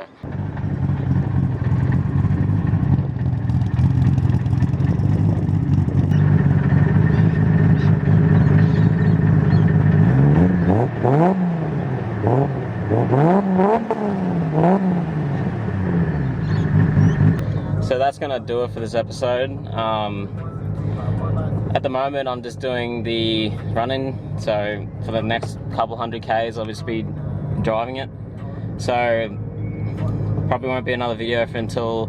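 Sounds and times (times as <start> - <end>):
car engine running and revving: 0.2 - 32.0.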